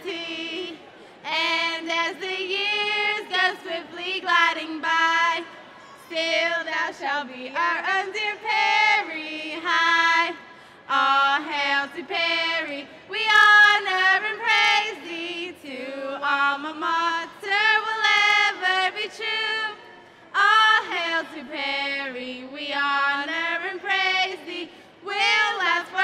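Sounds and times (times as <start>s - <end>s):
women singing: 0.0s - 26.0s.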